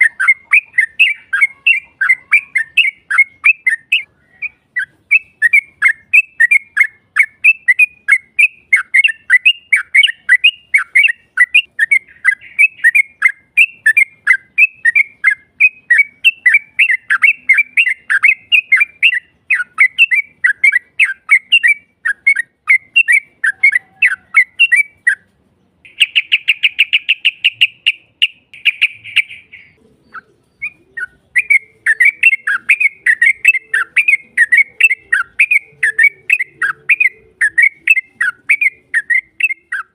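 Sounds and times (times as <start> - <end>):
bird buzzy trill: 0.0 - 39.9
bird chattering song: 0.0 - 39.9.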